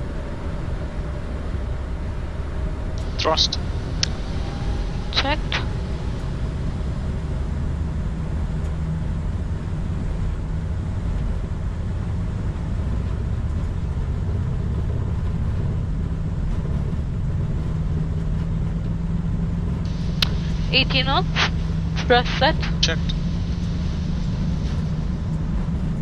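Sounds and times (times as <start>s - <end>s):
jet engines low rumble: 0.0s - 26.0s.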